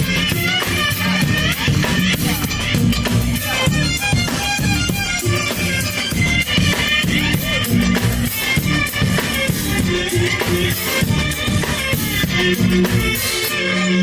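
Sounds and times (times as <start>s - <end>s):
drums steady beat: 0.0s - 14.0s
street band playing upbeat tune: 0.0s - 14.0s.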